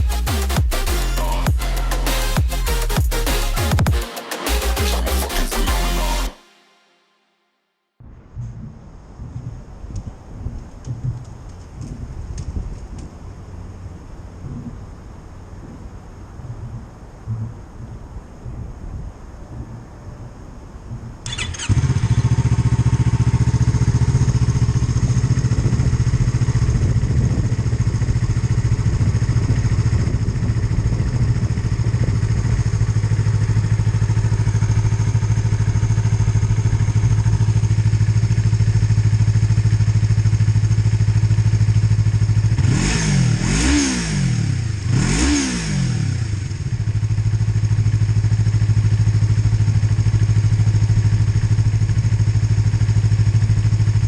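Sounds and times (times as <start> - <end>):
motorcycle engine idling and revving: 0.0 - 6.3, 8.0 - 54.0.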